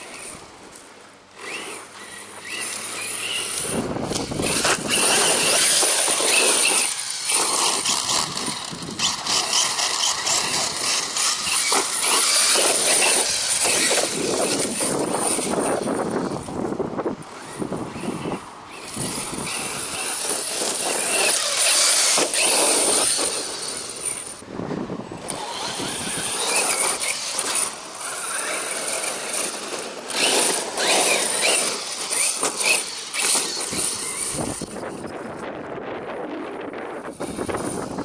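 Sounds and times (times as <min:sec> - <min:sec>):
tyres churning dirt: 0:00.0 - 0:35.4
electric motors whining: 0:00.0 - 0:35.5.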